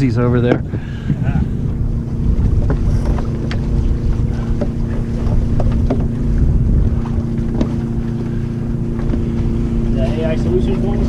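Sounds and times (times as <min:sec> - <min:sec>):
steady low hum: 0:00.0 - 0:11.0
water rushing along hulls: 0:00.0 - 0:11.0
wind buffeting microphone: 0:00.0 - 0:11.0.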